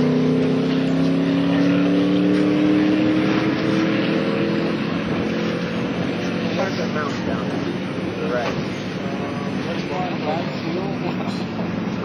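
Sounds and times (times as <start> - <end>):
race car engine pulling hard: 0.0 - 12.0.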